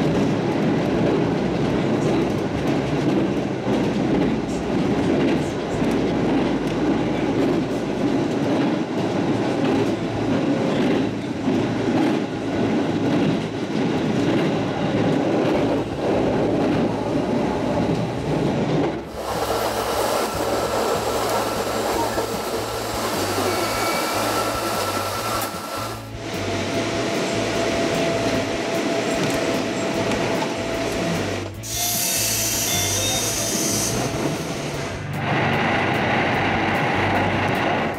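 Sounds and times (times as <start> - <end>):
train running with high whine: 0.0 - 37.9.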